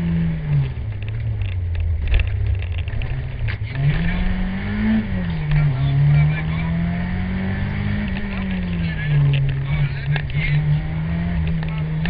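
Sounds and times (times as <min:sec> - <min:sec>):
car engine revving in cabin: 0:00.0 - 0:12.0.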